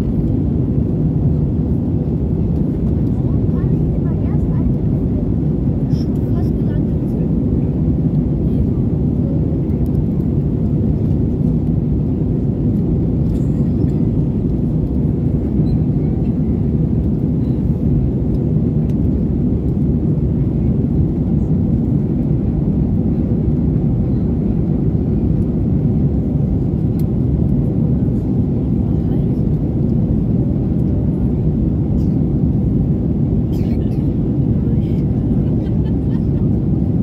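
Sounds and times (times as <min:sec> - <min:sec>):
airliner rumble in flight: 0:00.0 - 0:37.0.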